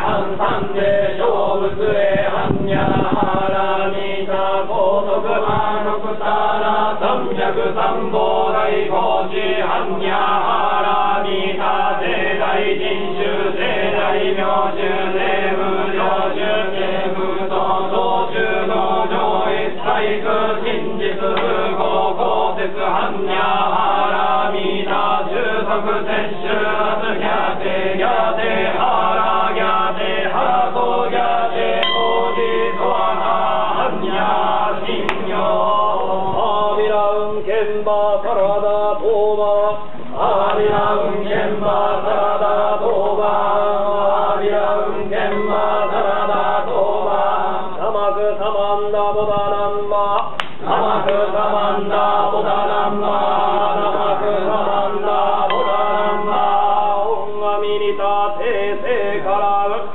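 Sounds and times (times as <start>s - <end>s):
men chanting together: 0.0s - 59.9s.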